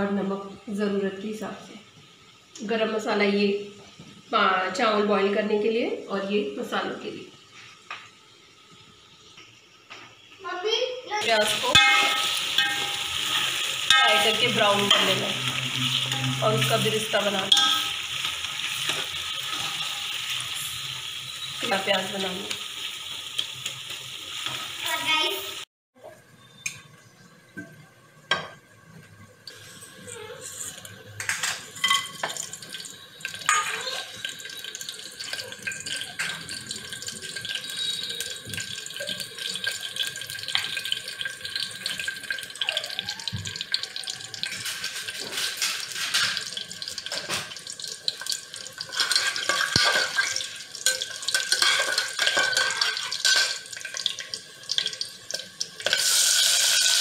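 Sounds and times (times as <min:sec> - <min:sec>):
spices sizzling in hot oil: 0:00.0 - 0:25.7, 0:29.4 - 0:57.0.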